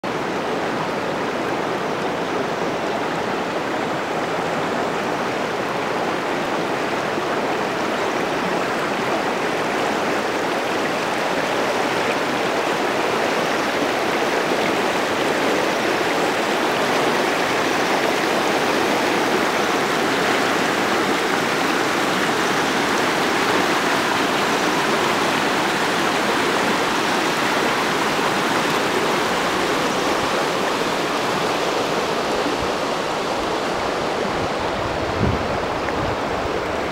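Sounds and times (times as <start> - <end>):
river rushing over pebbles: 0.1 - 36.9.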